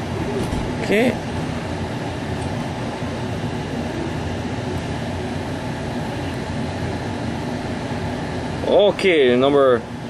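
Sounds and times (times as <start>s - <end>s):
low mechanical hum and hiss: 0.0s - 10.0s.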